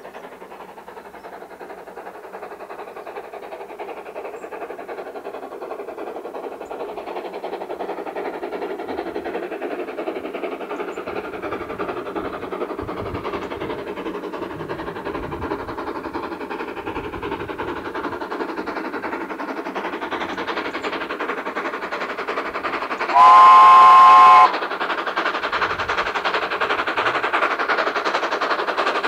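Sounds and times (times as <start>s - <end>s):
steam train rumbling and rattling: 0.0s - 29.0s.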